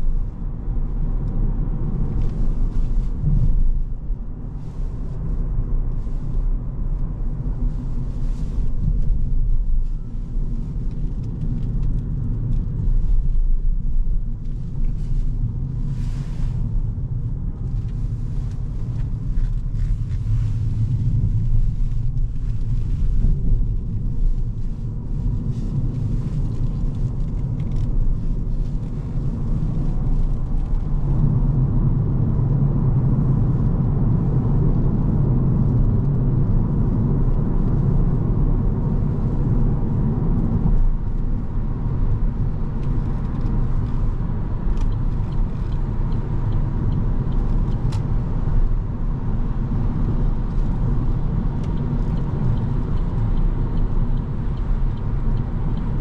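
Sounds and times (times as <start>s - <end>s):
tyre and road rumble: 0.0s - 56.0s
wind noise: 0.0s - 56.0s.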